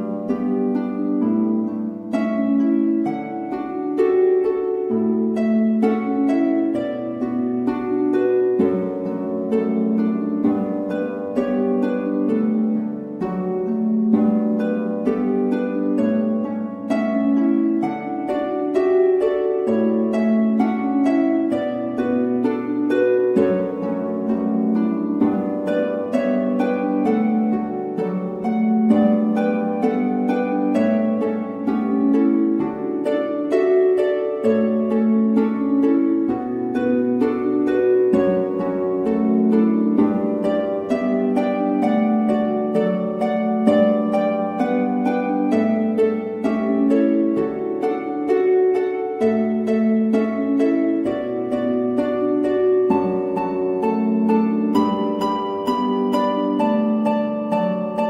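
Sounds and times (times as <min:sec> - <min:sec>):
plucked-string music: 0:00.0 - 0:58.0.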